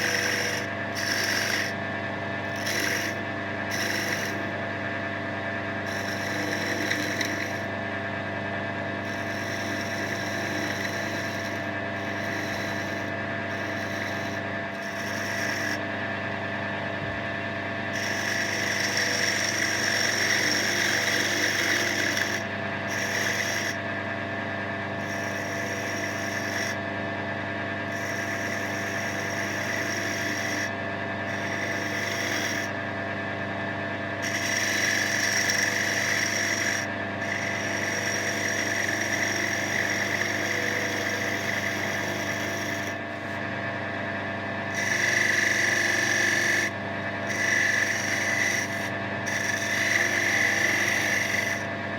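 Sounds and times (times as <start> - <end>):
tool scraping spinning wood: 0.0 - 26.9, 27.5 - 33.2, 34.0 - 51.9
wood lathe motor hum: 0.0 - 51.9.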